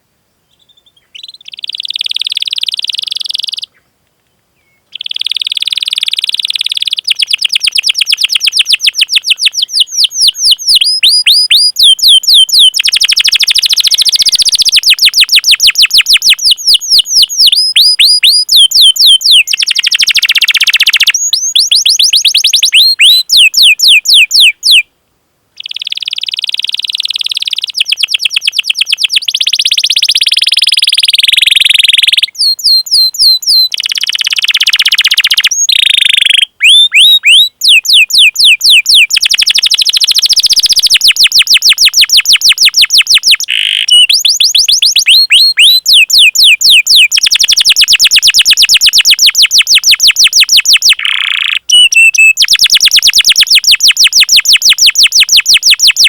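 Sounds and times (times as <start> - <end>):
canary singing: 0.6 - 3.8, 4.6 - 24.9, 25.6 - 56.0.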